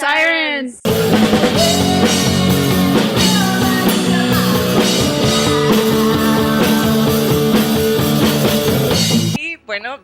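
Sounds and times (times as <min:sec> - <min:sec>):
rock band playing: 0:00.9 - 0:09.4.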